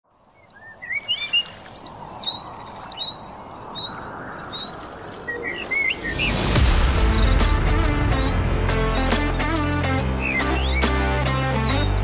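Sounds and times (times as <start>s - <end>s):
steady outdoor hiss: 0.0s - 12.0s
birds chirping and singing: 0.2s - 12.0s.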